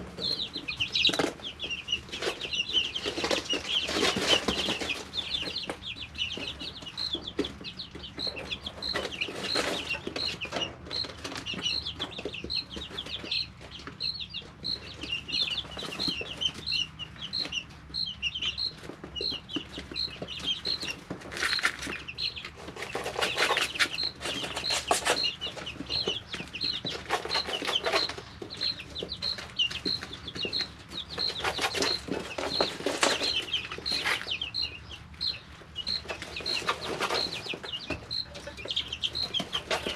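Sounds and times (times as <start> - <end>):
chicks peeping: 0.0 - 39.9
chicks rustling: 0.0 - 39.9.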